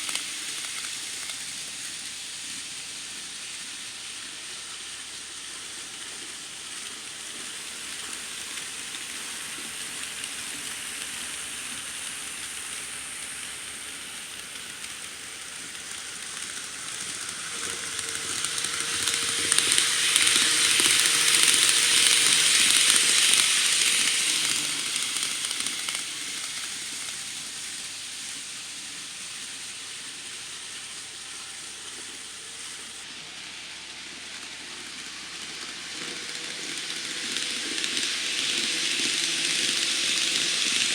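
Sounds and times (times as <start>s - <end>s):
model train wheels on rails: 0.0s - 40.9s
faint motor hum: 3.6s - 40.9s.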